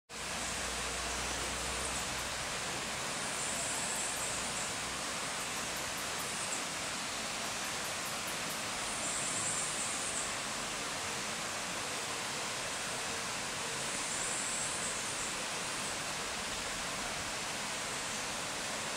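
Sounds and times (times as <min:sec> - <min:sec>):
forest ambience hiss: 0:00.1 - 0:18.9.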